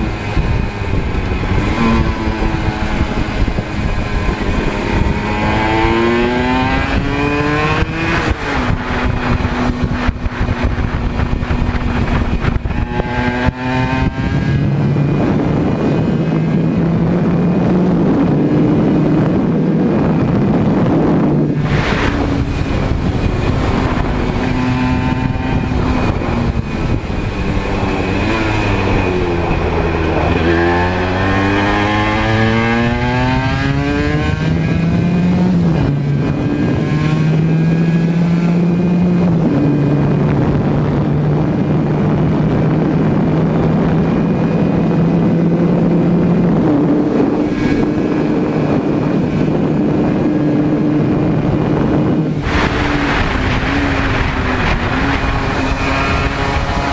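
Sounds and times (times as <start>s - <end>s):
gear changes: 0.0s - 56.9s
two-stroke motorcycle engine revving: 0.0s - 56.9s
wind noise on microphone: 0.0s - 56.9s.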